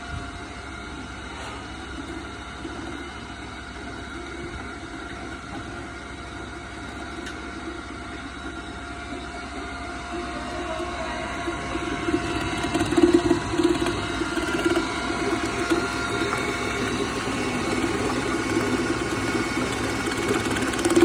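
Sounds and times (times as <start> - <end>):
slicing machine motor humming: 0.8 - 21.0.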